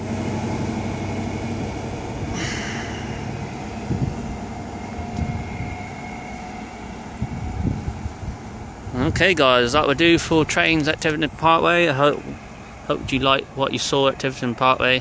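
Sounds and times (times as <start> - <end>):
train diesel engines droning: 0.0 - 15.0.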